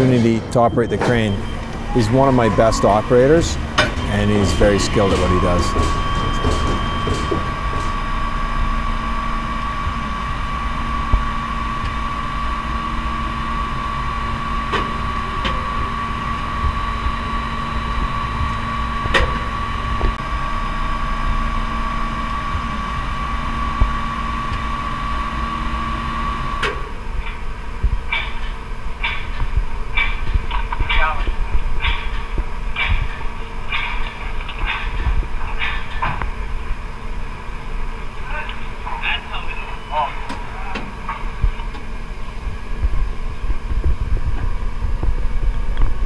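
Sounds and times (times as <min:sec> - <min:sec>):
machine hum with high whine: 0:00.0 - 0:46.0.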